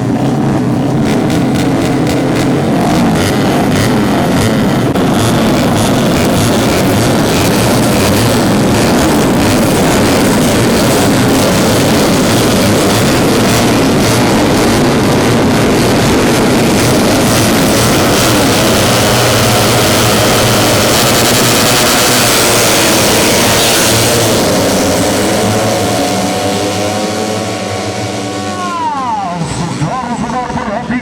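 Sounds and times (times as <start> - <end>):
racing motorcycle engines howling: 0.0 - 31.0.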